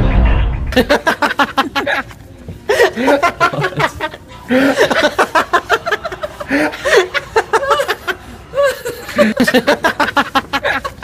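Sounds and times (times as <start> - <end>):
man laughing heartily: 0.8 - 11.0.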